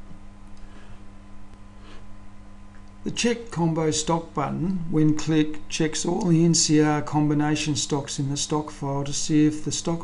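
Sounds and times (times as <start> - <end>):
faint recording hiss: 0.0 - 10.0
low electrical hum: 0.0 - 10.0.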